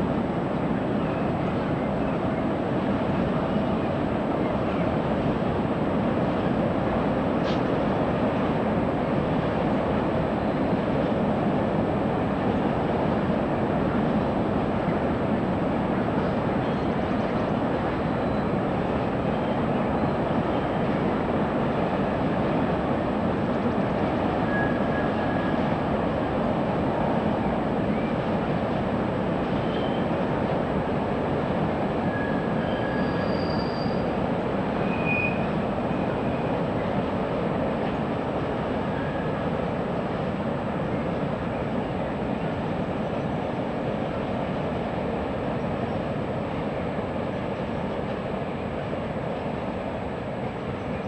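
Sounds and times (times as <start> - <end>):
trains rumbling slowly: 0.0 - 51.0.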